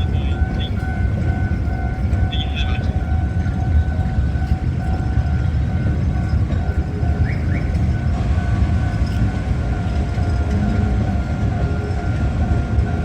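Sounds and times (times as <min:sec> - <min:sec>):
rail vehicle low rumble: 0:00.0 - 0:13.0.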